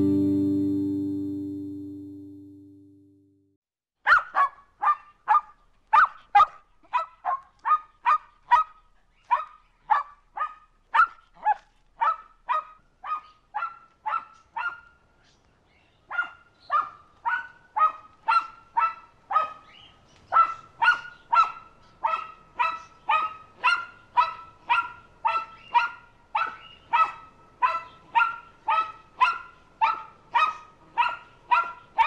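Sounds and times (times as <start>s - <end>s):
dog barking: 4.0s - 15.0s, 16.1s - 32.0s.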